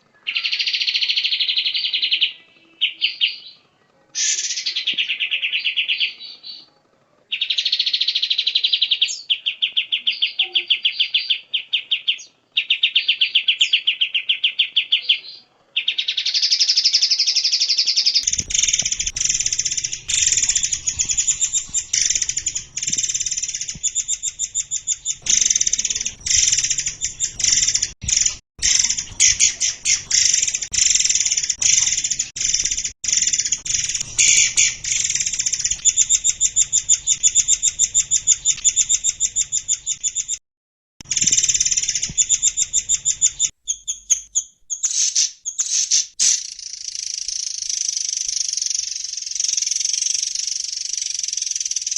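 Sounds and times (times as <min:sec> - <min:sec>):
songbird singing with trills: 0:00.2 - 0:06.7, 0:07.3 - 0:40.4, 0:41.0 - 0:51.9.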